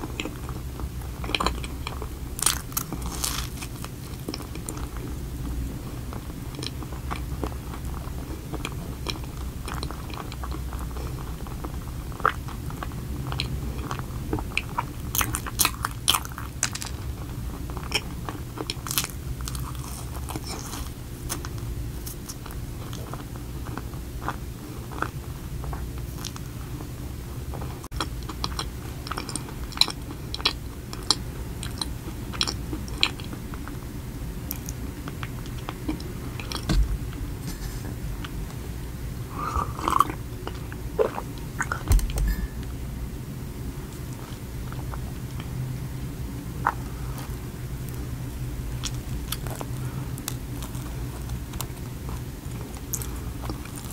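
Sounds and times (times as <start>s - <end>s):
chewing and crunching donut: 0.0s - 36.7s, 38.3s - 41.9s, 44.0s - 53.9s
steady low hum: 0.0s - 53.9s.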